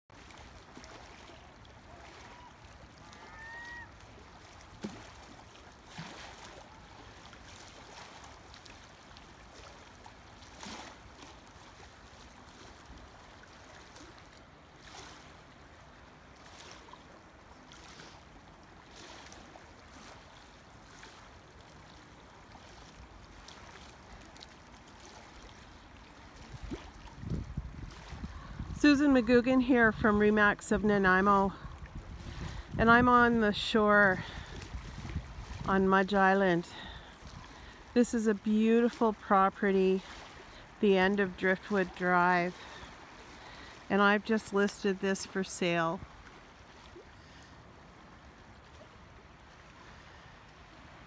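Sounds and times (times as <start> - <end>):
small waves lapping on rocks: 0.1 - 51.0.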